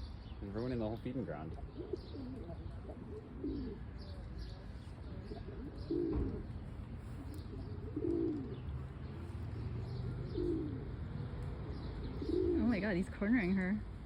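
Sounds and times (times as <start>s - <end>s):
pigeon cooing: 1.5s - 12.8s.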